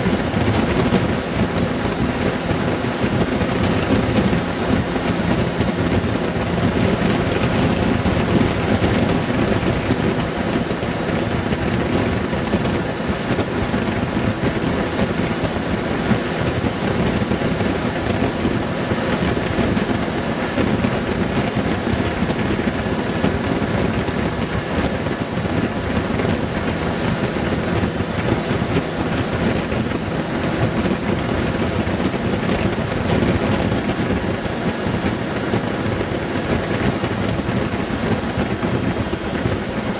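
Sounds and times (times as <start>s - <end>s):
motorcycle engine drone: 0.0s - 39.9s
wind rush on microphone: 0.0s - 39.9s.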